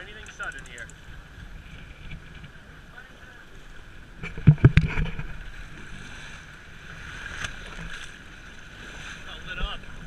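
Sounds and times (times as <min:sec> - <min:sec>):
sea noise: 0:00.0 - 0:10.0
water slapping boat hull: 0:00.0 - 0:10.0
wind: 0:00.0 - 0:10.0.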